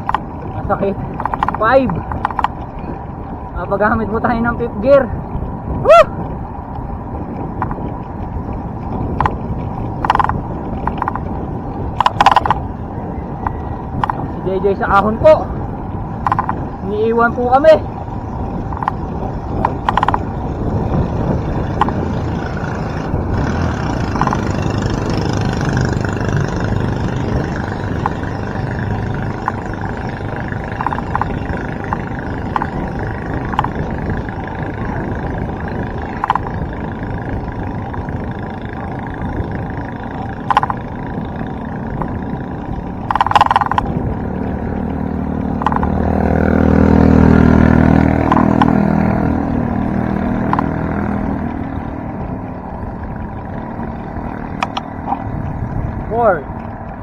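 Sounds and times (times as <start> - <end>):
bicycle clicks and rattles: 0.0 - 4.5, 6.2 - 57.0
motor vehicle engine approaching: 0.0 - 57.0
wind and road rush: 0.0 - 57.0.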